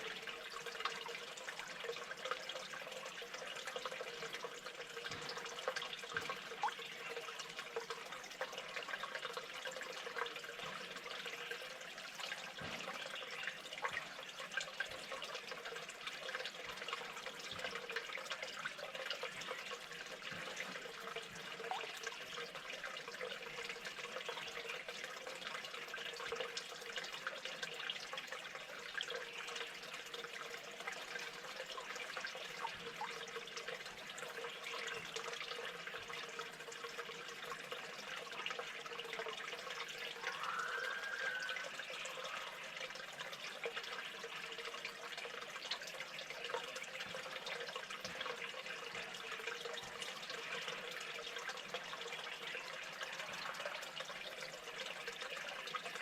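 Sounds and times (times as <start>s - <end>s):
water trickling and dripping: 0.0s - 56.0s.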